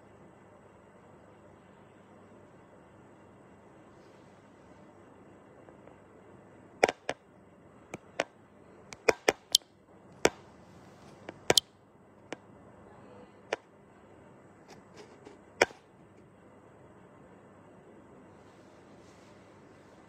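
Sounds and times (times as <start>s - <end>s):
faint hiss: 0.0s - 8.9s, 9.9s - 20.0s.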